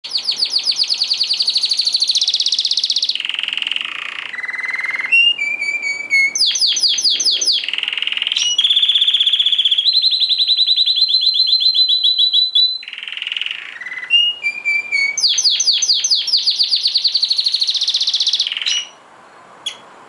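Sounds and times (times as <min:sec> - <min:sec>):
canary singing trills: 0:00.0 - 0:19.9.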